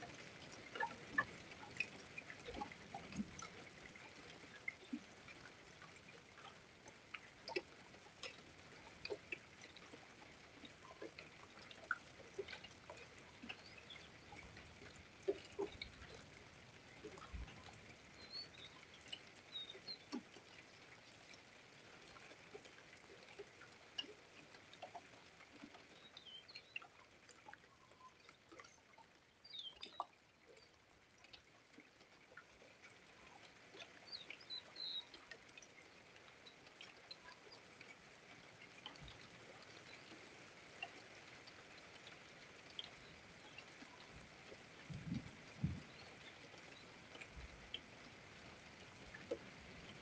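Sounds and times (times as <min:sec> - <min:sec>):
soft ticks: 0:00.0 - 0:40.2.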